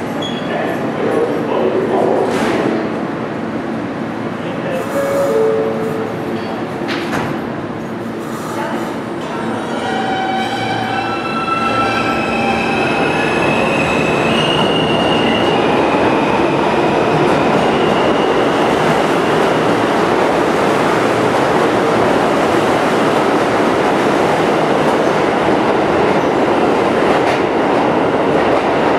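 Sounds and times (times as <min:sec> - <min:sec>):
subway train electric whine: 0:00.0 - 0:28.9
train wheels on rail: 0:04.8 - 0:28.9.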